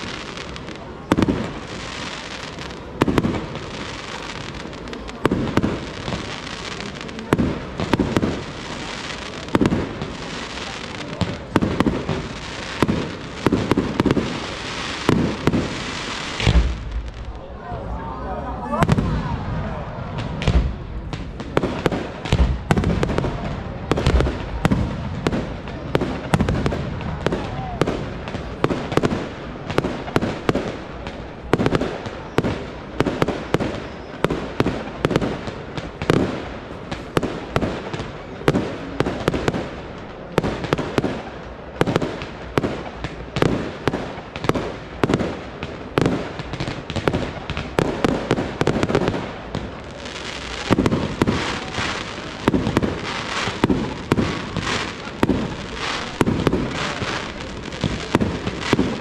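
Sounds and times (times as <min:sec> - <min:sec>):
fireworks bursting: 0:00.0 - 0:59.0
fireworks hiss and crackle: 0:00.0 - 0:59.0.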